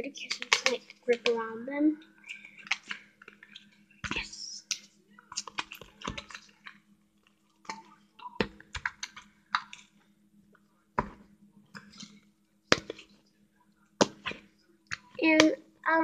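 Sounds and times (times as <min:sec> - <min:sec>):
hands working sticky slime: 0:00.0 - 0:10.1, 0:10.9 - 0:13.3, 0:14.0 - 0:16.0.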